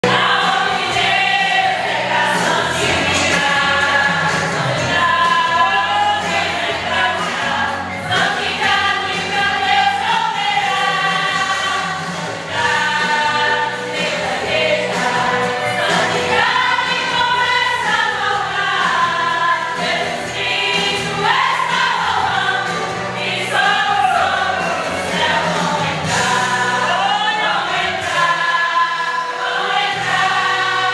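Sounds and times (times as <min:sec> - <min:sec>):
vocal group singing gospel: 0:00.0 - 0:30.9.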